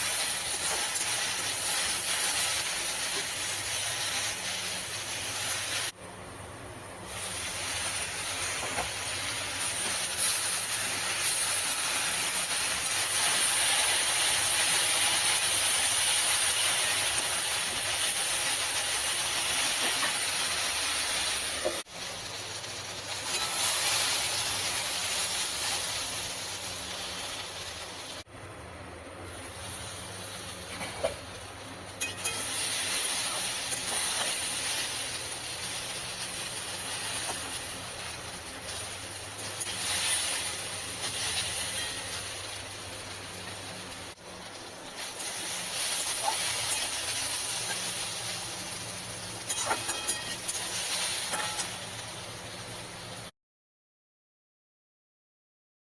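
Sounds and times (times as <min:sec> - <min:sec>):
food sizzling in oil: 0:00.0 - 0:06.0, 0:06.9 - 0:28.3, 0:29.2 - 0:53.3.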